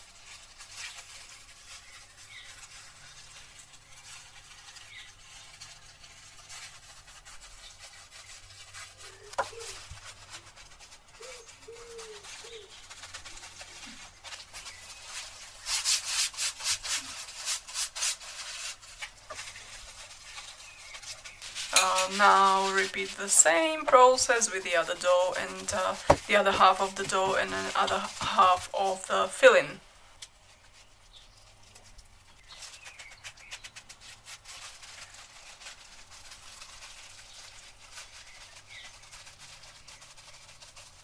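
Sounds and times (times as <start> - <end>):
gloved hands rubbing dough: 0.0 - 41.0.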